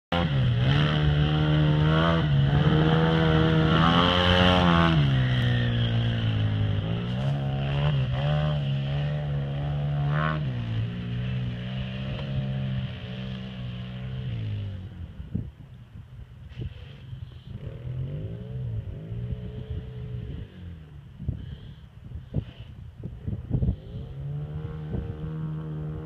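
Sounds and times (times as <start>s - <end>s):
vehicle engine revving: 0.1s - 15.2s, 16.6s - 21.0s, 23.4s - 26.0s.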